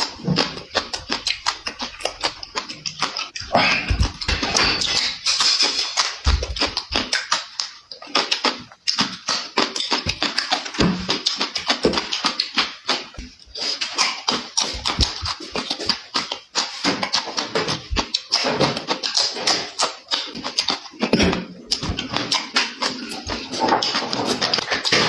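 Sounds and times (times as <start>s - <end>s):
person chewing and smacking food: 0.0s - 25.0s.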